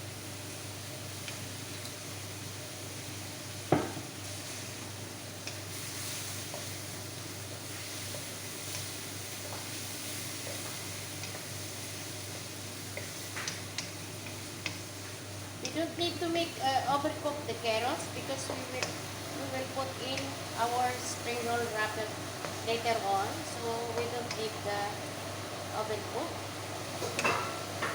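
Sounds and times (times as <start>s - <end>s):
food sizzling in a frying pan: 0.0s - 27.9s.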